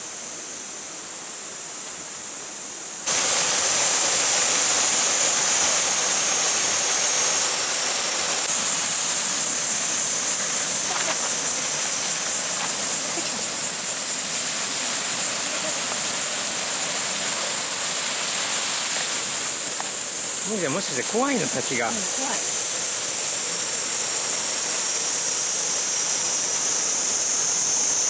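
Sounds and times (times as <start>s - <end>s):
waterfall rushing: 3.1s - 27.5s.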